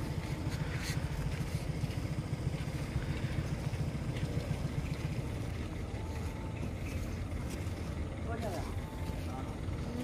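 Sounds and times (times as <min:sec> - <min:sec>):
heavy diesel engine idling: 0:00.0 - 0:10.0.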